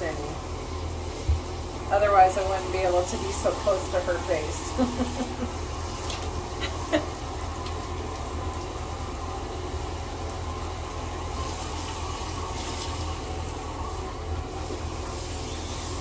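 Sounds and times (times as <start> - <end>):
shower head spraying water: 0.0 - 16.0.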